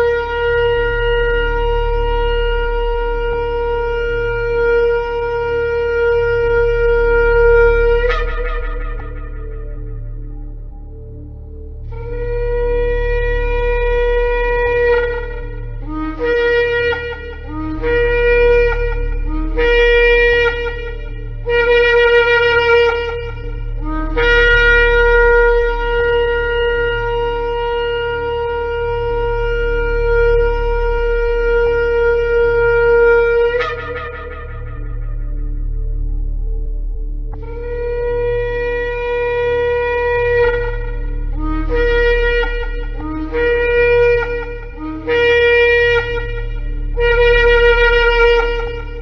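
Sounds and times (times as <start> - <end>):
shofar blasts: 0.0 - 49.0.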